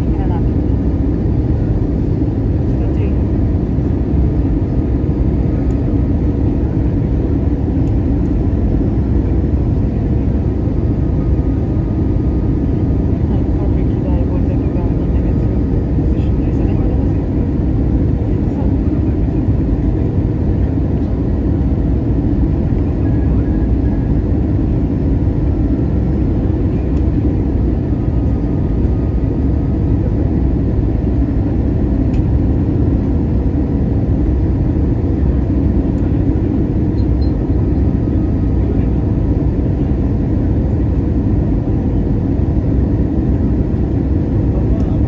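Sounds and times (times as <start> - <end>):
jet engine cabin roar: 0.0 - 45.0.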